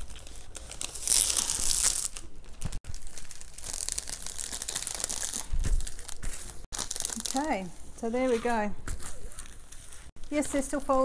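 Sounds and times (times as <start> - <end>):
plastic film crinkling and rustling: 0.0 - 11.0.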